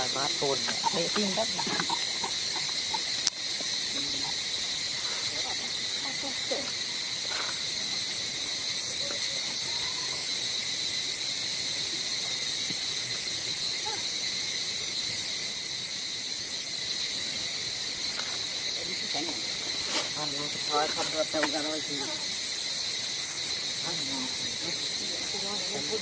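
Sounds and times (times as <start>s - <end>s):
insects chorus drone: 0.0s - 26.0s.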